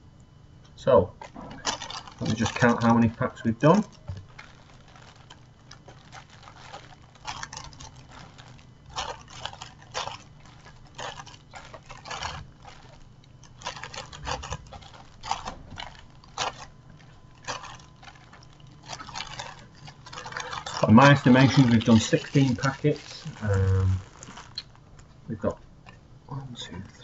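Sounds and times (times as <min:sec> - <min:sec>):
low steady hum: 0:00.0 - 0:27.0
cards rustling and tapping: 0:01.2 - 0:25.1.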